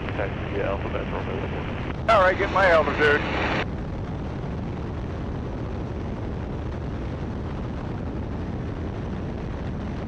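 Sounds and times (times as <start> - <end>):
biplane engine drone: 0.0 - 10.0
wind noise: 0.0 - 10.0.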